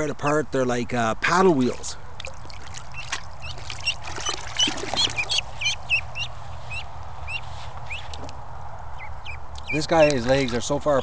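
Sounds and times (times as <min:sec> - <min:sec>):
ducklings peeping: 0:01.6 - 0:11.0.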